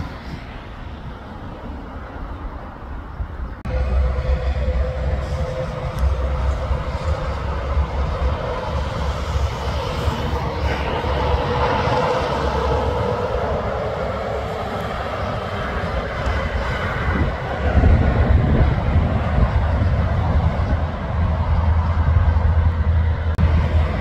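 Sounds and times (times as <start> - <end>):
steady whine: 3.6 - 24.0
truck diesel engine rumble: 3.6 - 24.0.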